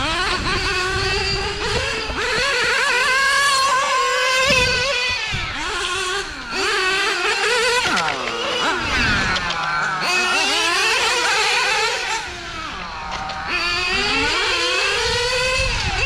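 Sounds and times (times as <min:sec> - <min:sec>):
rc car engines whining: 0:00.0 - 0:16.0.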